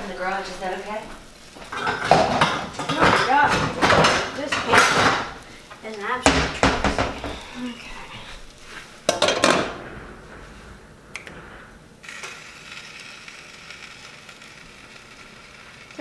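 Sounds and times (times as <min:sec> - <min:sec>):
tortilla sizzling in a hot pan: 0:00.0 - 0:09.8, 0:12.0 - 0:16.0.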